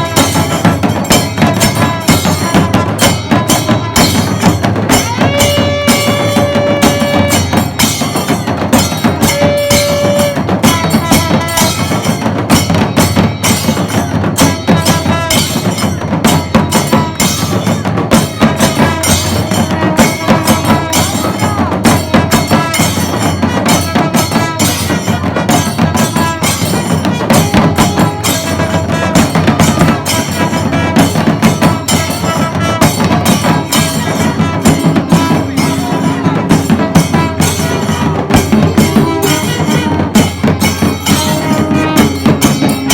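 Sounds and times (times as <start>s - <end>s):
held horn notes: 0.0s - 12.2s, 17.2s - 42.9s
temple drums and cymbals: 0.0s - 42.9s.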